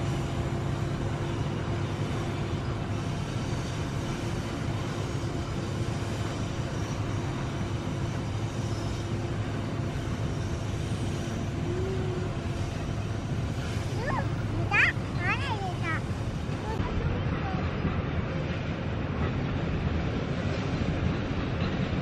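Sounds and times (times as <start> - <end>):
steel wheels rolling on rails: 0.0 - 22.0.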